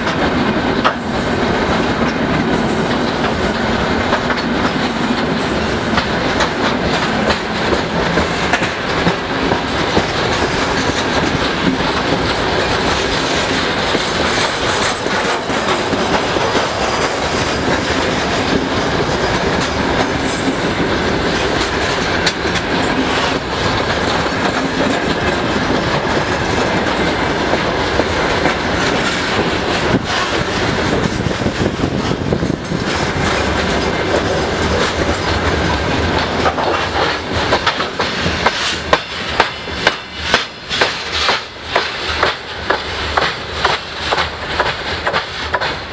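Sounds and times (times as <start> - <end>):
freight train rumbling and rattling: 0.0 - 45.9
train wheels clicking over rail joints: 0.0 - 45.9.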